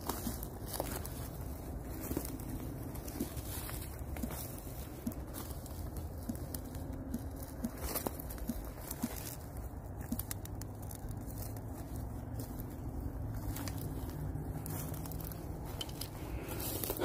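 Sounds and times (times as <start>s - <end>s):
distant road traffic rumble: 0.0s - 17.0s
footsteps on woodland floor: 0.0s - 17.0s.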